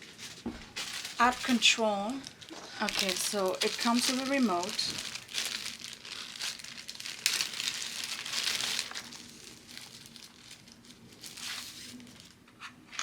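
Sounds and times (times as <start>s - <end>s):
packaging being crumpled: 0.0s - 12.4s.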